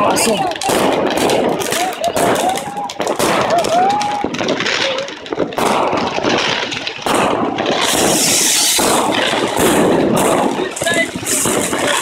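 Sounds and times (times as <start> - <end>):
firecrackers crackling bangs: 0.0 - 12.0
fireworks whistling: 0.0 - 12.0.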